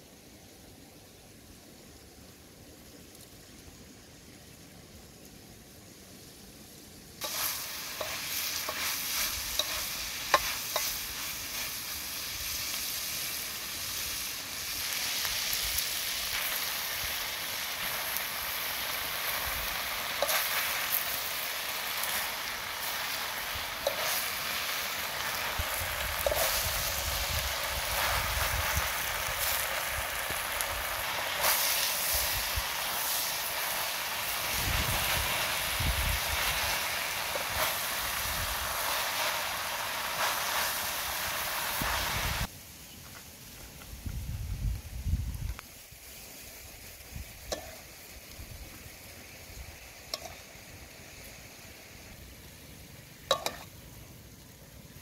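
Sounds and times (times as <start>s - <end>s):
meat sizzling in a wok: 0.0s - 55.0s.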